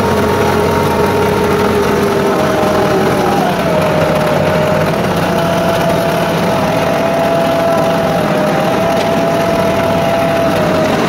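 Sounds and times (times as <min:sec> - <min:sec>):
steady whine: 0:00.0 - 0:11.0
tractor diesel engine running: 0:00.0 - 0:11.0.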